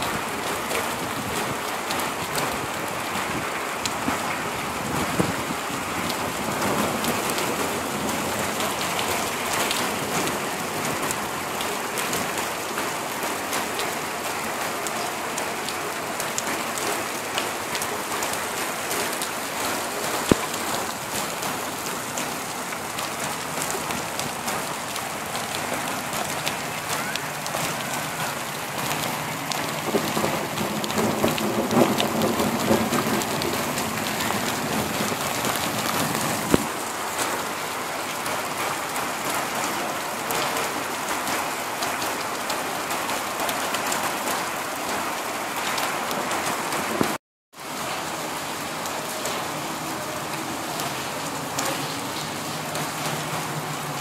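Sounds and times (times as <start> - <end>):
rain on concrete rooftop: 0.0 - 54.0.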